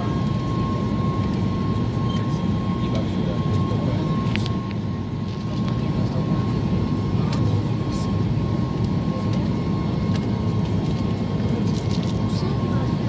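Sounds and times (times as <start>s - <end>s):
airliner engines rumbling: 0.0s - 13.0s.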